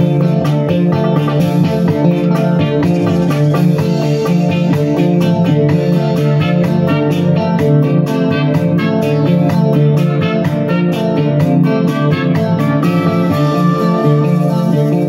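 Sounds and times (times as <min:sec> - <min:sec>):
bass line: 0:00.0 - 0:15.0
keyboard plucked guitar-like tune: 0:00.0 - 0:15.0.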